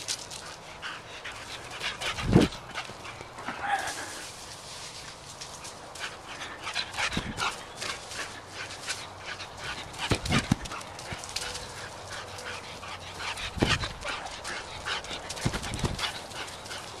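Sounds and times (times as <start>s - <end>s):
dog feet pattering on grass: 0.0s - 17.0s.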